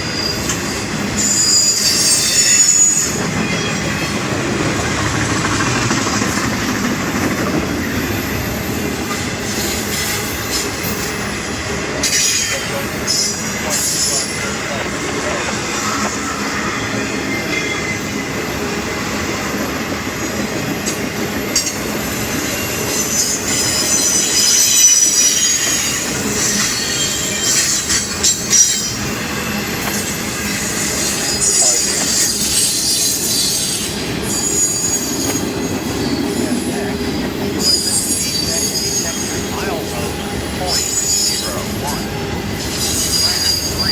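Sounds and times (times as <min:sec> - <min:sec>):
freight train rumble: 0:00.0 - 0:43.9
wheels squealing on rail: 0:00.0 - 0:43.9.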